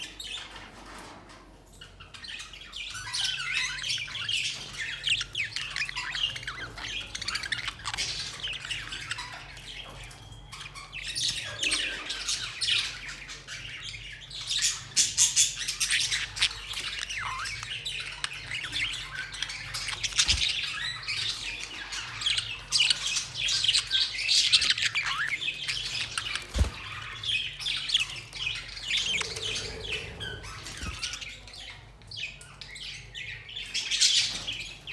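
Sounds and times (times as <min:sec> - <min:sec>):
budgerigars chirping and squawking: 0:01.9 - 0:34.9.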